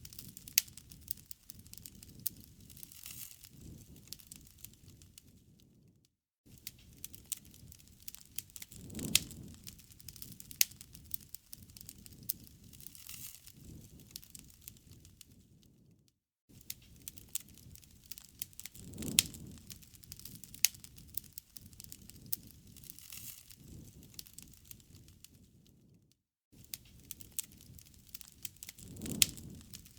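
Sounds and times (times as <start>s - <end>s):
campfire crackling and popping: 0.0s - 5.8s, 6.5s - 15.9s, 16.5s - 25.9s, 26.6s - 29.9s.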